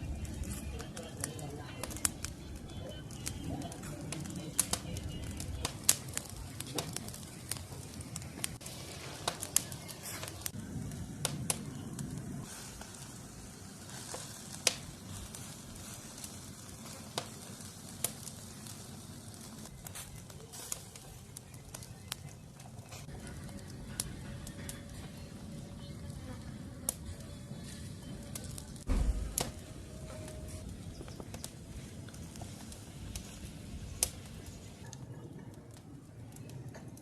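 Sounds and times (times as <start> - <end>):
cooking fire crackling: 0.0 - 37.0.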